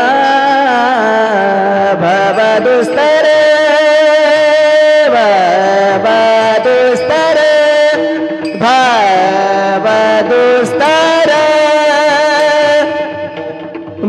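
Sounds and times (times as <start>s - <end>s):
musical accompaniment: 0.0s - 14.0s
person singing long notes: 0.0s - 14.0s.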